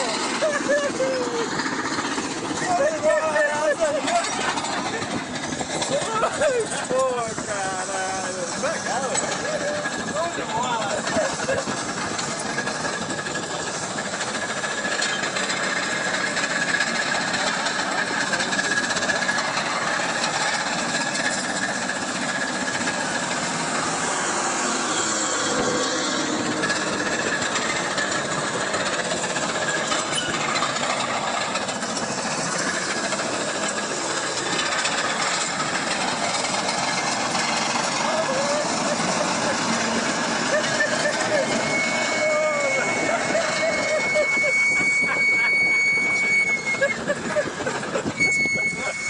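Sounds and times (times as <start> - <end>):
machine engine running: 0.0 - 49.0.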